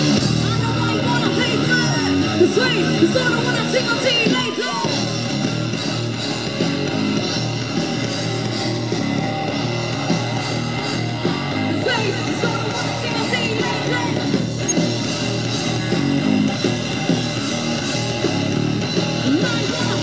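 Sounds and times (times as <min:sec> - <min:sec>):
electric guitar: 0:00.0 - 0:20.0
rock band playing live: 0:00.0 - 0:20.0.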